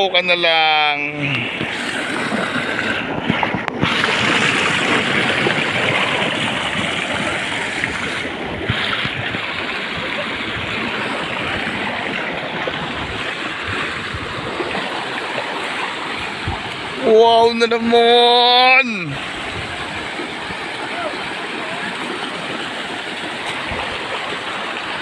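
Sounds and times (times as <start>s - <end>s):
river water rushing and gurgling: 0.0s - 25.0s.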